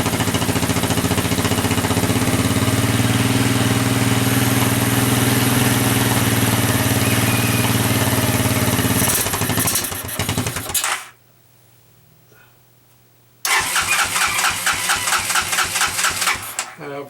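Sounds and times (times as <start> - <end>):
motorcycle engine running and faltering: 0.0 - 11.1, 13.5 - 16.8.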